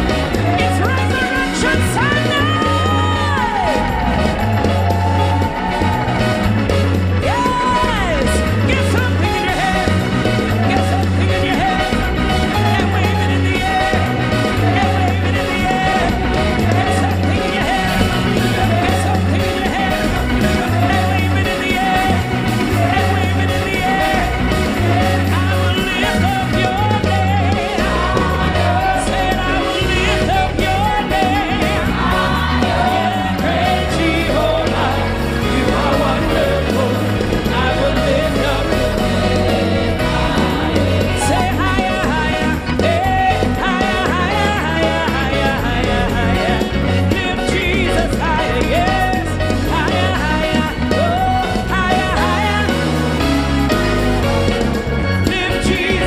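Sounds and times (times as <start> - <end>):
bass line: 0.0 - 56.0
drums: 0.0 - 56.0
singers and choir vocals: 0.0 - 56.0.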